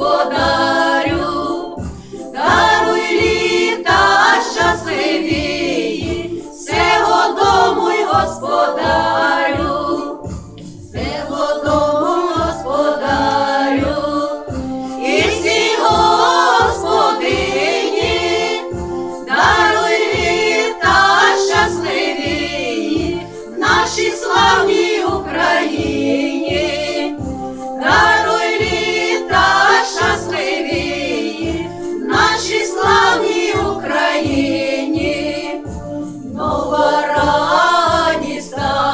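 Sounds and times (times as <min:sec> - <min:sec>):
backing track with low beat: 0:00.0 - 0:38.9
voices singing a carol in chorus: 0:00.0 - 0:38.9.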